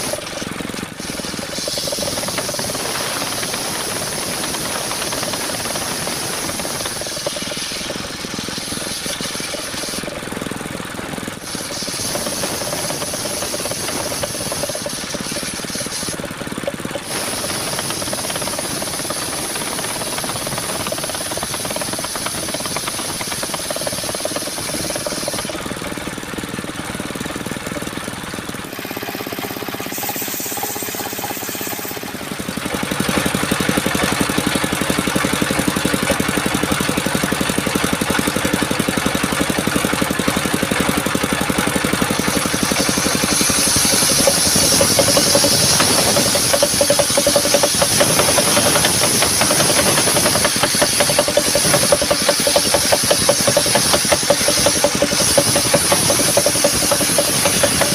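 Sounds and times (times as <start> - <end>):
circular sawmill running: 0.0 - 57.9.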